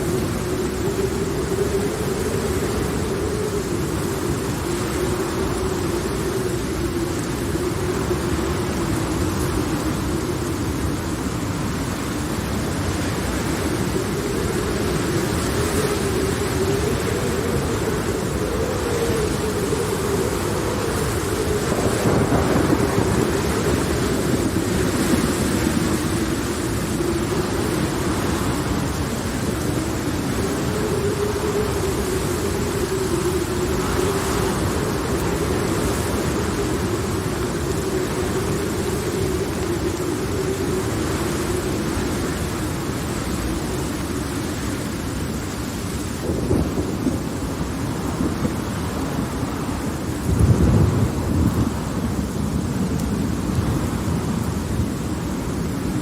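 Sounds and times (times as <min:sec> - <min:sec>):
steady rain: 0:00.0 - 0:56.0
thunder rumble: 0:00.0 - 0:56.0.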